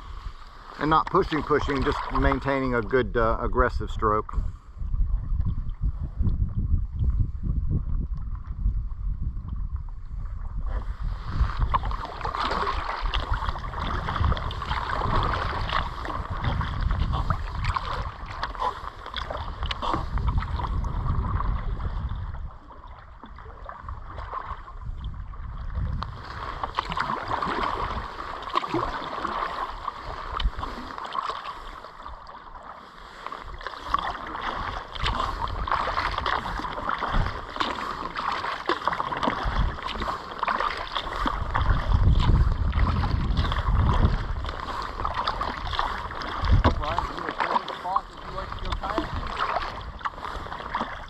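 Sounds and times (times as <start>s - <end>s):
paddle splashing in water: 0.0s - 3.3s, 9.5s - 51.0s
wind rumbling on microphone: 0.0s - 51.0s.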